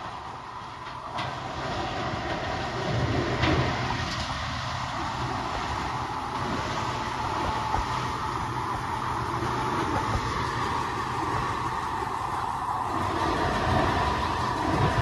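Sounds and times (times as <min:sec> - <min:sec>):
diesel locomotive engines droning: 0:00.0 - 0:15.0
train wheels on rail: 0:00.0 - 0:15.0.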